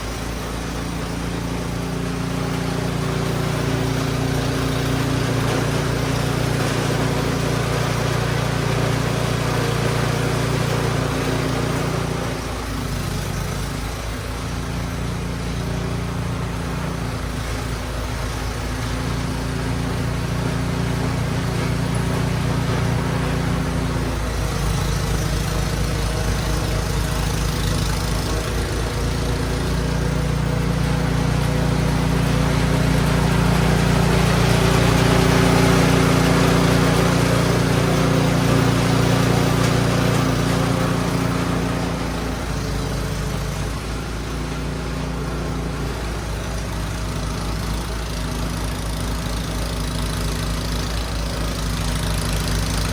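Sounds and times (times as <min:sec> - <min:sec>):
snow blower engine running: 0:00.0 - 0:52.9.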